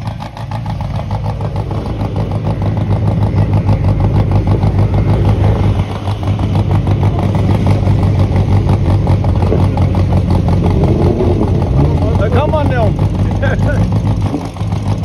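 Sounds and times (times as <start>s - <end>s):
racing car engine at low revs: 0.0s - 15.0s.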